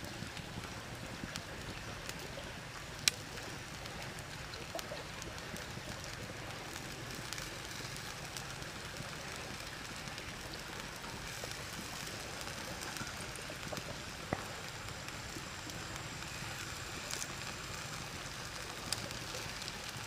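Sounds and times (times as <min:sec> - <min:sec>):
shrimp sizzling on hot stone: 0:00.0 - 0:20.0.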